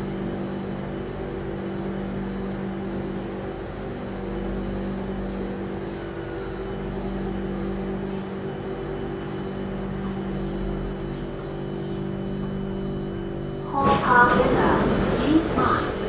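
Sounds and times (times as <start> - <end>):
train car equipment hum: 0.0 - 16.0.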